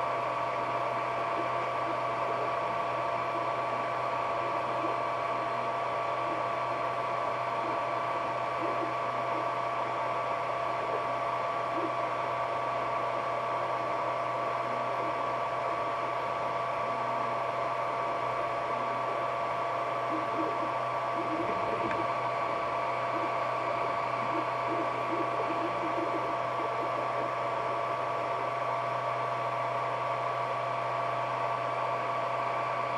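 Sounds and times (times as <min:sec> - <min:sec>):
cooling fans whirring: 0:00.0 - 0:32.9.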